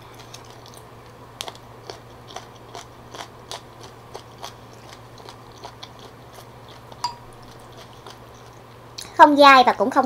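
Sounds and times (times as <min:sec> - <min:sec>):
crunchy chewing: 0:00.0 - 0:09.1.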